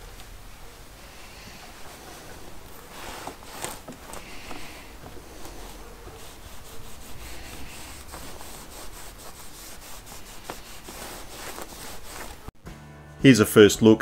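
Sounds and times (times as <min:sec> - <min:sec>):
towel rubbing leather straps: 0:01.0 - 0:12.6.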